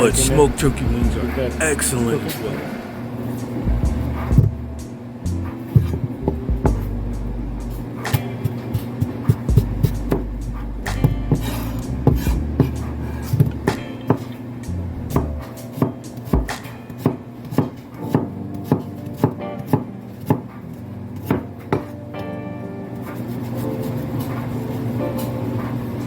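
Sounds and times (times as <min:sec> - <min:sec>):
low background sound: 0:00.0 - 0:26.0.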